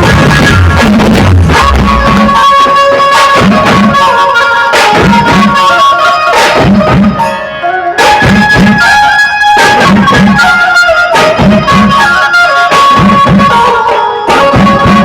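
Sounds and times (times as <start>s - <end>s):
repeating drum beat: 0.0s - 7.4s, 8.0s - 15.0s
band held melody line: 0.0s - 15.0s.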